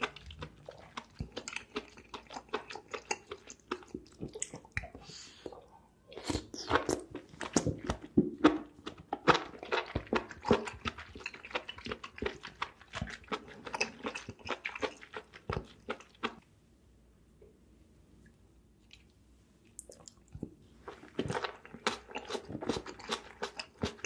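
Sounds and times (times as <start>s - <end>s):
chewing food: 0.0s - 16.4s, 18.8s - 19.2s, 19.8s - 24.0s.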